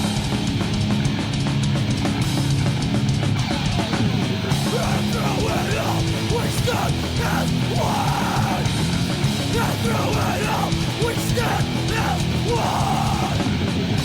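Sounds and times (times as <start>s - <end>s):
heavy metal instrumental: 0.0s - 14.0s.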